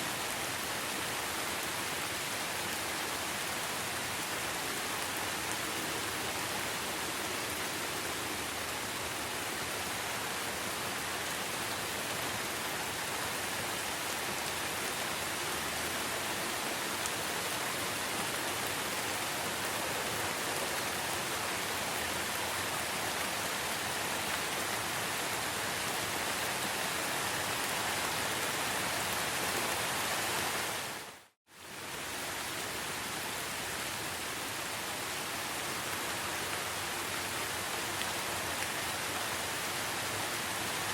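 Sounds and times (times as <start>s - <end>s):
rain falling in forest: 0.0s - 40.9s.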